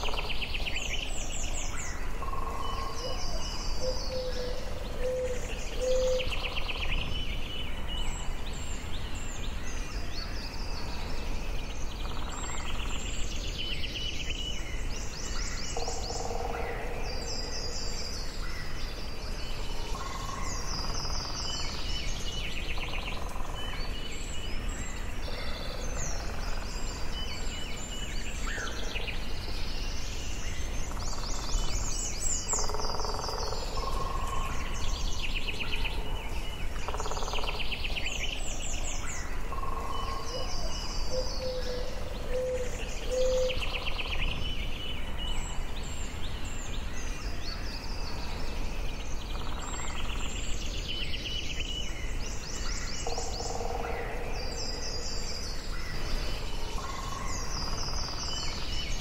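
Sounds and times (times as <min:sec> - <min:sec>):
low background noise: 0:00.0 - 0:59.0
songbirds singing and calling: 0:00.0 - 0:59.0.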